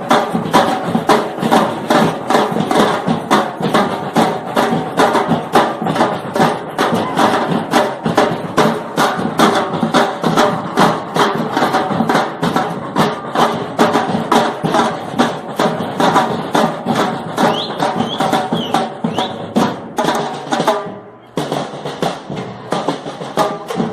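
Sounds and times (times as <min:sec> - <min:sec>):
percussion group drumming: 0:00.0 - 0:23.9.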